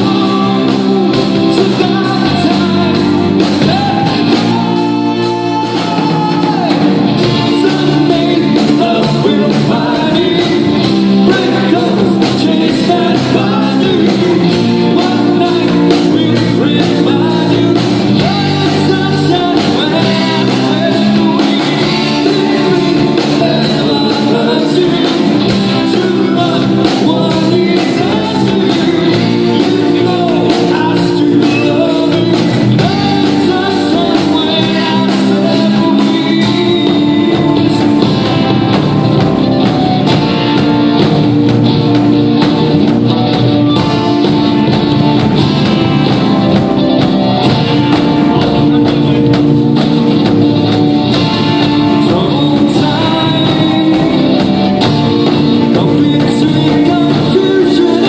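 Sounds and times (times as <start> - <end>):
rock band with singer: 0.0 - 58.0.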